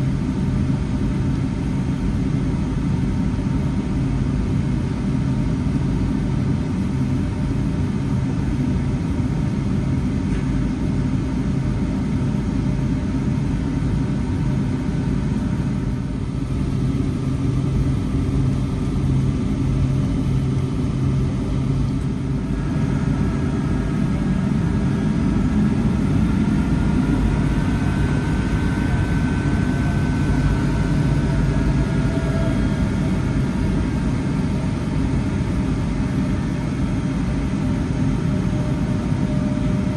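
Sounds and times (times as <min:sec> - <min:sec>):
airliner engine rumble in cabin: 0:00.0 - 0:39.9
faint steady whine: 0:00.0 - 0:39.9.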